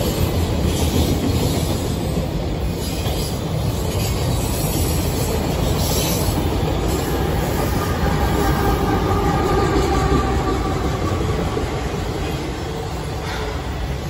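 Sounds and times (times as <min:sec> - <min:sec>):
train cars rumbling on rails: 0:00.0 - 0:14.0.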